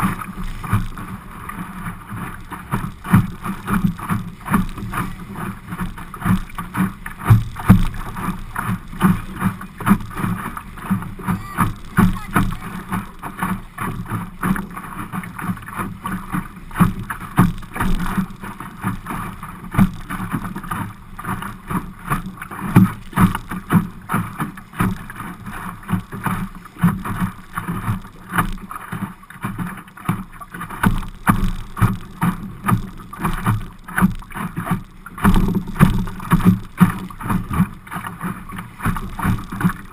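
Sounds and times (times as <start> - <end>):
water slapping against boat hull: 0.0 - 39.9
waves knocking on hull: 0.0 - 39.9.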